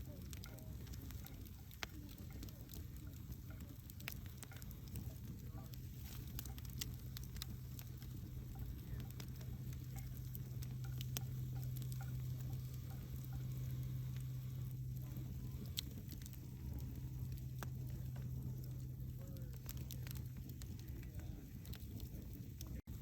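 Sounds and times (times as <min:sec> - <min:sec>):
low steady hum: 0:00.0 - 0:23.0
wood fire crackling: 0:00.0 - 0:23.0.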